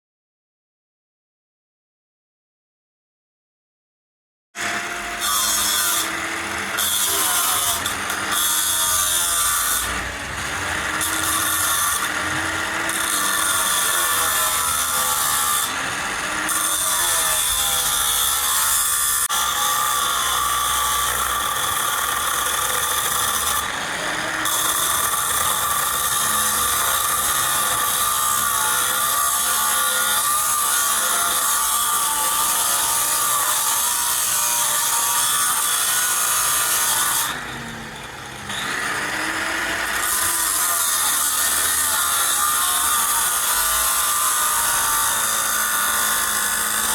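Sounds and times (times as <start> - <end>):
power tool grinding metal: 4.6 - 46.9.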